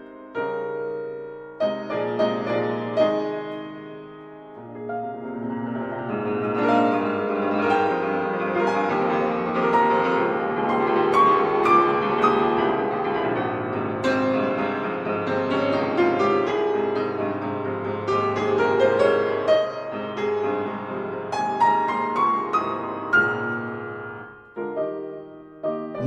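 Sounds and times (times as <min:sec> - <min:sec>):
soft slow piano music: 0:00.0 - 0:26.0.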